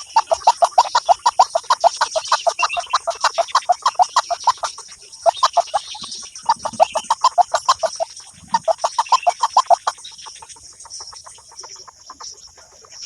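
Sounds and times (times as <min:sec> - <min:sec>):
clucking bird calls: 0:00.0 - 0:13.0.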